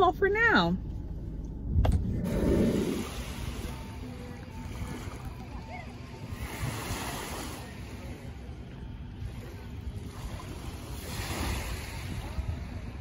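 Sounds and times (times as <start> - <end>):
wind buffeting microphone: 1.5 - 7.0, 7.7 - 13.0
small lake waves: 2.2 - 13.0.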